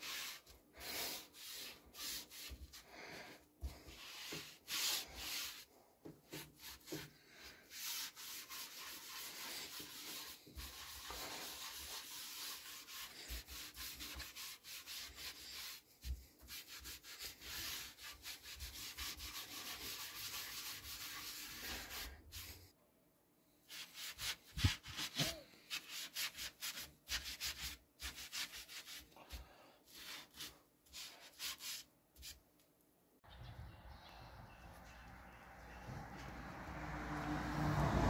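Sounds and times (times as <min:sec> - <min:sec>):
sponge scrubbing a board: 0:00.0 - 0:22.7, 0:23.7 - 0:32.4.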